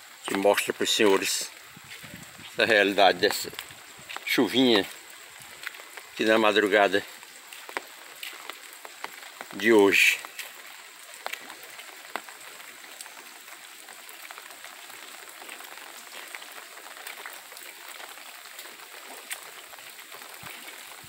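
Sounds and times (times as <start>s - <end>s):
drips ticking and splashing: 0.0s - 21.0s
light rain hiss: 0.0s - 21.0s.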